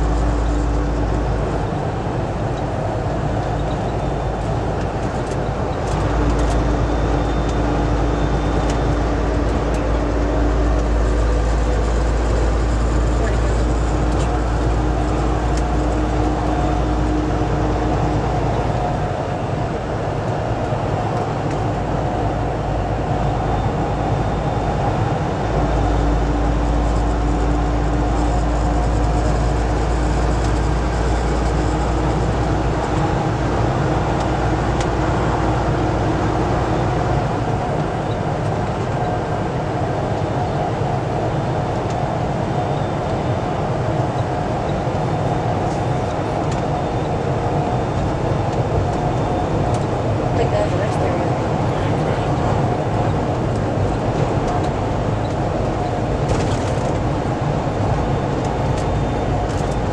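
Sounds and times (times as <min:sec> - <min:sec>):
road noise: 0:00.0 - 0:59.9
truck engine rumble: 0:00.0 - 0:59.9.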